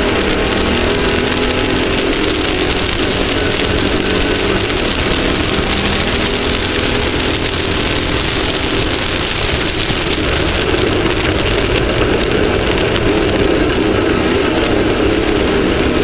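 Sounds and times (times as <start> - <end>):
race vehicle engine running: 0.0 - 16.0
terrain noise: 0.0 - 16.0
wind rush: 0.0 - 16.0.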